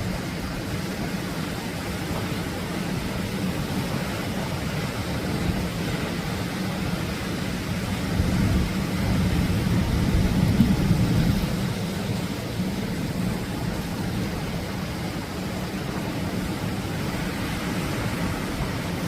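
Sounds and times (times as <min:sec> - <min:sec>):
waves breaking on shore: 0:00.0 - 0:19.0.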